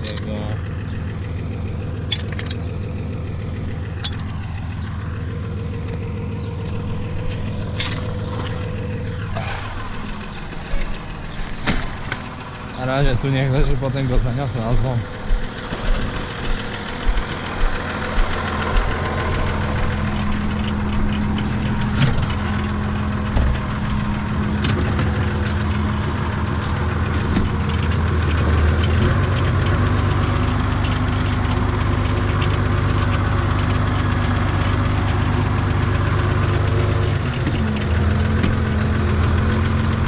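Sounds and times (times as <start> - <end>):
tractor diesel engine idling: 0.0 - 40.0.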